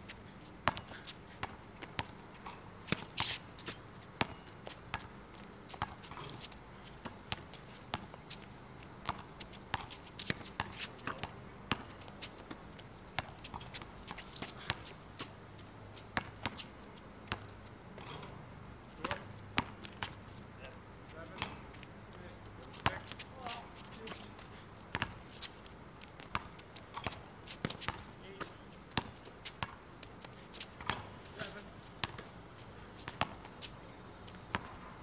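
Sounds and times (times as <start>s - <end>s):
basketball bouncing on asphalt: 0.4s - 18.4s, 19.0s - 20.3s, 21.2s - 21.8s, 22.7s - 32.4s, 33.0s - 34.9s.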